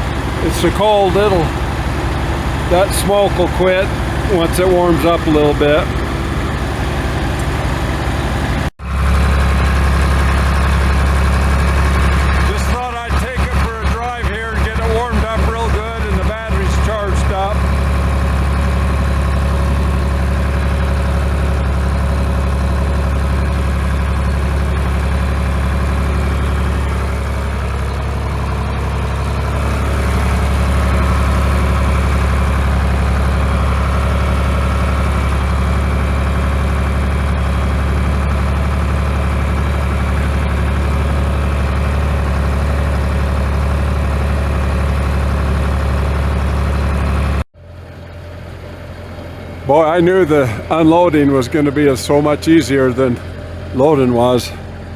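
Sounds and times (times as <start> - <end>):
tractor engine droning: 0.0 - 54.9.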